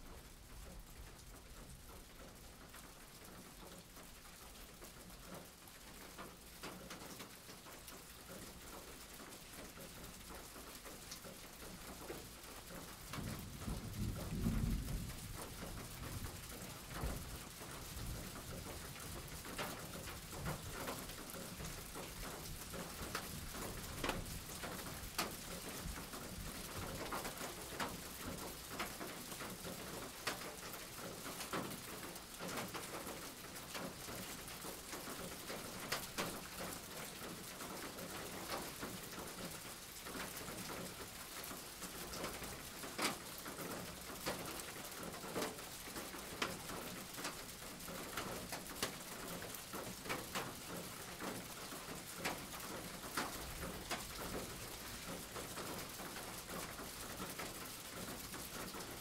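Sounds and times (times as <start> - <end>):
rain hissing: 1.4 - 59.0
raindrop clicks: 4.6 - 59.0.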